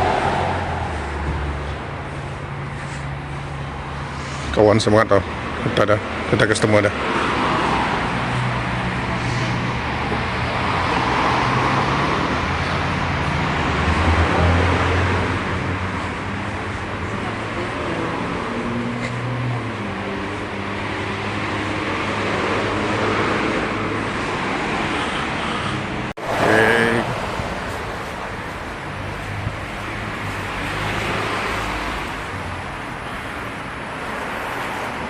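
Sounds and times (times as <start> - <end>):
car engine and road noise: 0.0 - 35.0.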